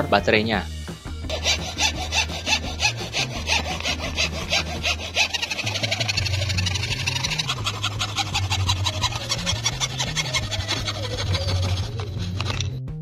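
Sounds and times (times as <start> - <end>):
hacksaw cutting plastic sheet: 1.3 - 12.8.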